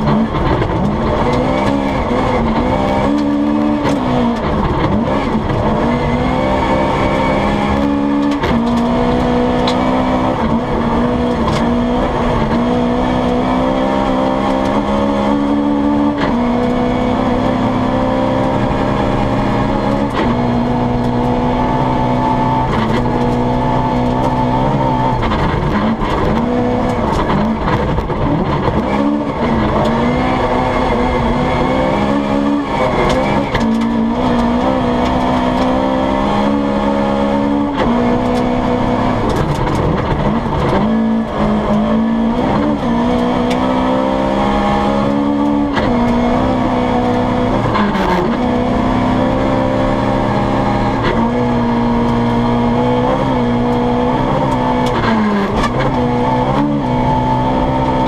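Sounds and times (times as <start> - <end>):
rally car engine at high revs: 0.0 - 58.0.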